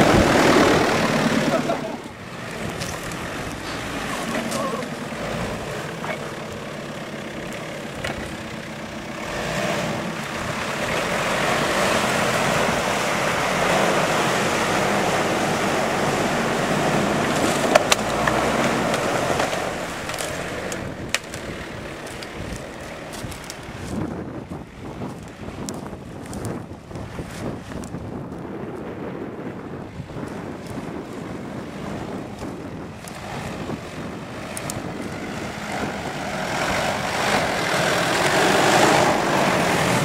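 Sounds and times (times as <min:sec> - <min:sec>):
car engine running under load: 0:00.0 - 0:40.0.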